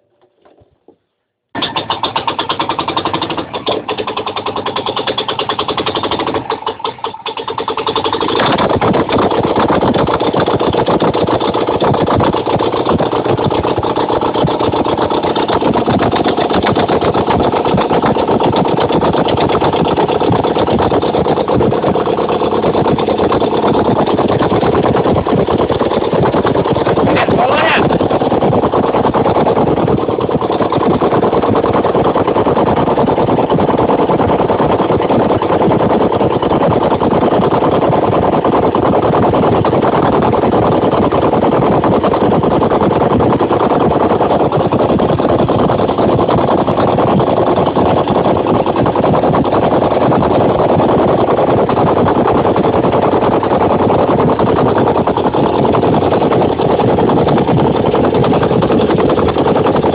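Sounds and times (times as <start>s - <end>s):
motorcycle engine running: 1.6s - 59.9s.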